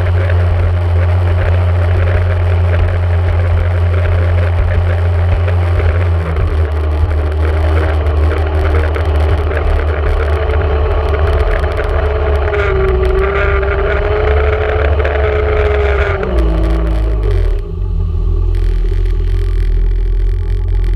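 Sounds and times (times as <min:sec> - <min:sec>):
watercraft two-stroke engine: 0:00.0 - 0:20.9.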